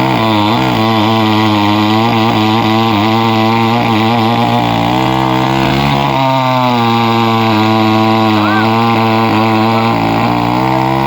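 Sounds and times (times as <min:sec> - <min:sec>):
chainsaw cutting a tree: 0:00.0 - 0:11.0.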